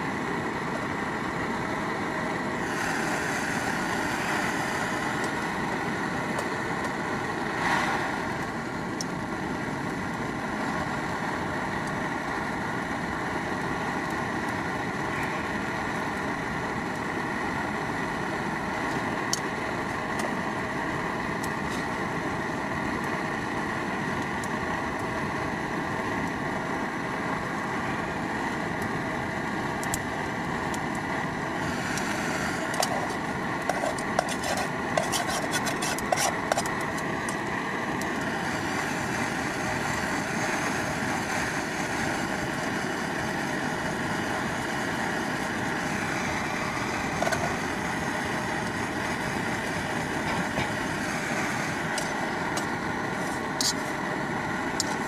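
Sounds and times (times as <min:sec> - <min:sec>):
steady rushing noise: 0:00.0 - 0:24.2, 0:25.3 - 0:55.0.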